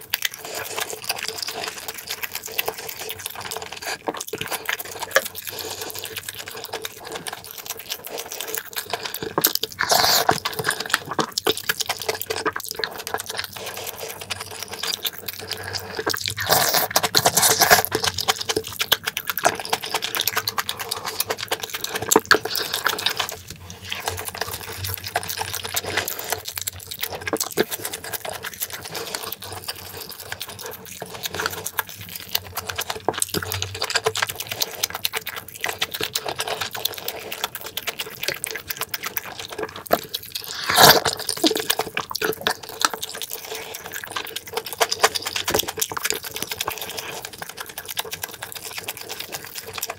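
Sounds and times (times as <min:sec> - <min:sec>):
wet chewing mouth sounds: 0:00.0 - 0:49.9.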